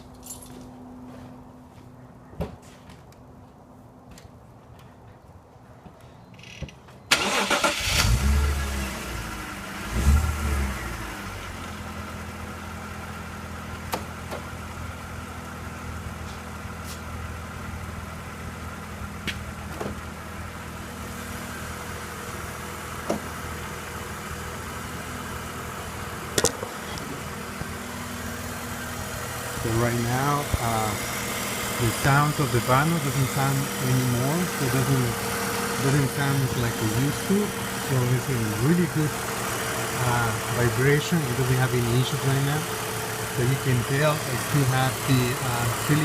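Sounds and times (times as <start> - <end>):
car engine starting and idling: 7.1 - 46.0.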